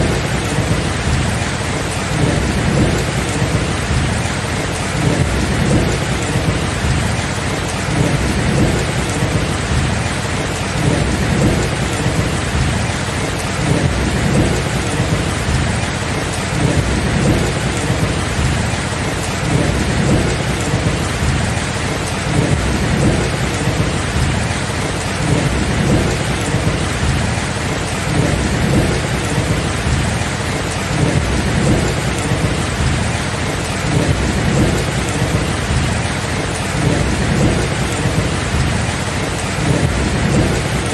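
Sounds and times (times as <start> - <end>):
low thunder rumbling: 0.0 - 40.9
rain falling: 0.0 - 40.9.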